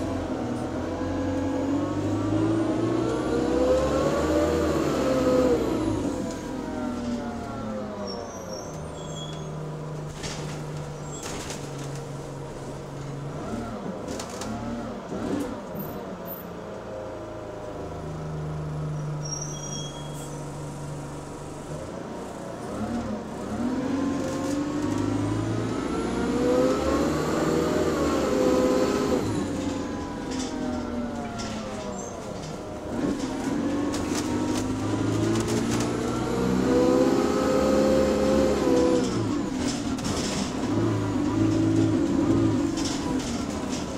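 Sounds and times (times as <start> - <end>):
bus engine: 0.0 - 43.9.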